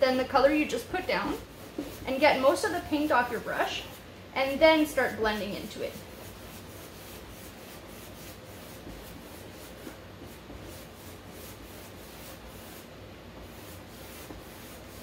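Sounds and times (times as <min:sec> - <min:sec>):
paintbrush rubbing on canvas: 0:00.3 - 0:04.0, 0:04.6 - 0:15.0.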